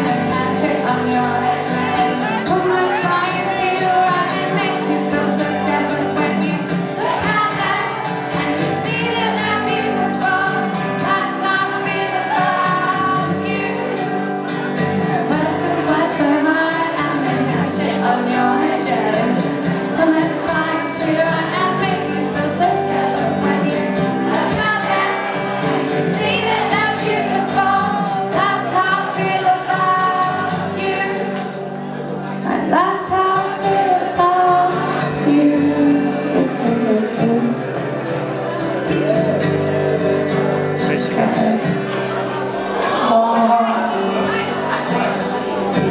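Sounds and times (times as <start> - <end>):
woman singing: 0.0 - 14.2, 15.1 - 31.6, 32.4 - 37.8, 40.9 - 41.9, 42.9 - 44.9
guitar accompaniment: 0.0 - 45.9.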